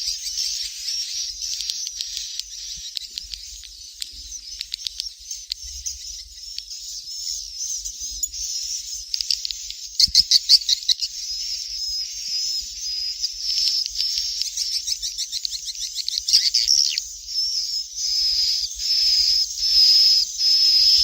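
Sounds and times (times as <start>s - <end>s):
swiftlet chicks twittering: 0.0s - 21.0s.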